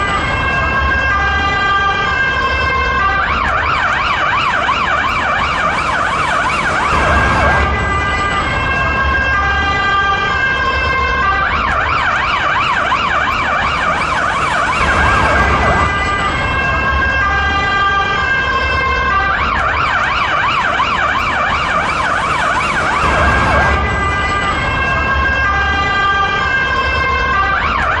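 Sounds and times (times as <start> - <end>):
police car siren warbling: 0.0 - 28.0.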